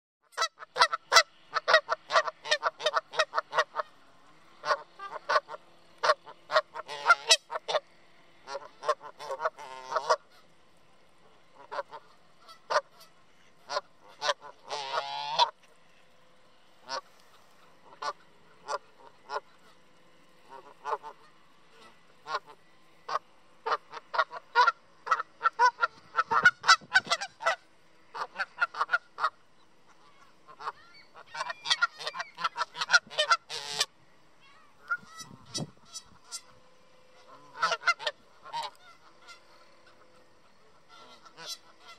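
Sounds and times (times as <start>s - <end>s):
geese honking: 0.3s - 10.6s, 11.3s - 15.7s, 16.8s - 34.0s, 34.8s - 41.9s.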